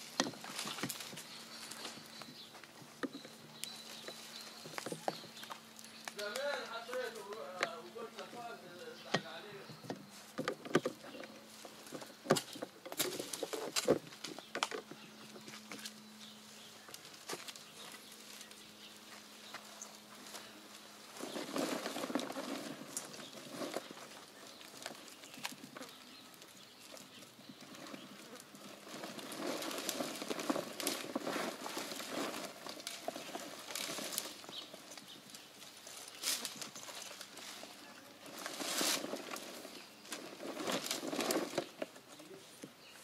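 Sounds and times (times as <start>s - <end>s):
date stalks rustling and clattering: 0.0s - 16.0s, 16.6s - 42.8s.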